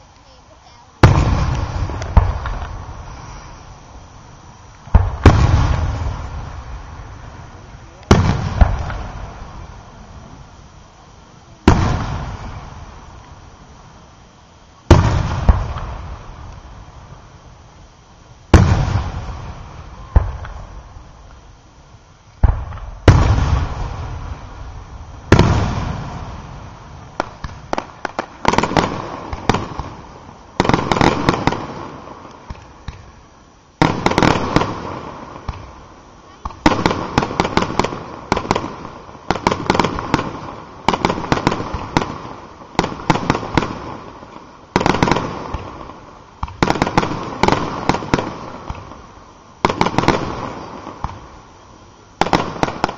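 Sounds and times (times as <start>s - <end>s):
firework pops and crackles: 0.0s - 10.4s, 11.6s - 13.5s, 14.8s - 17.4s, 18.4s - 21.5s, 22.3s - 51.5s, 52.1s - 52.9s
firework shells booming: 1.0s - 10.3s, 11.6s - 13.4s, 14.9s - 17.5s, 18.5s - 21.4s, 22.3s - 33.2s, 33.8s - 51.4s.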